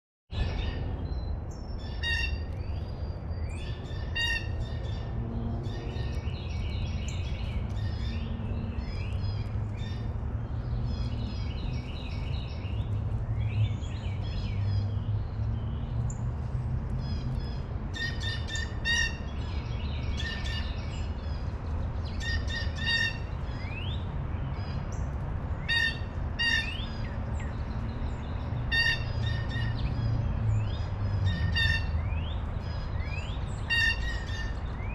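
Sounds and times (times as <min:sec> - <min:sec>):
small birds chirping: 0:05.7 - 0:34.9.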